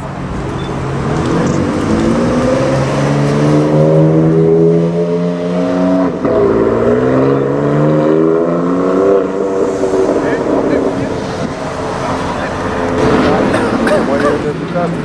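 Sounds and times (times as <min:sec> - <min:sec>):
car engine accelerating hard: 0:00.8 - 0:15.0.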